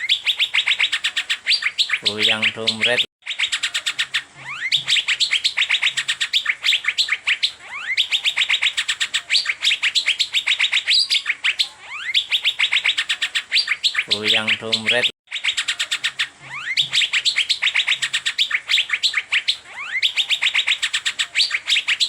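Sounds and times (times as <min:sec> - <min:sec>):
bird singing sharp repeated chirps: 0:00.0 - 0:22.0.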